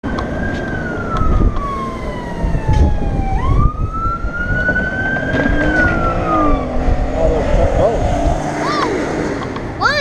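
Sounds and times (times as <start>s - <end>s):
siren wailing: 0.0s - 9.2s.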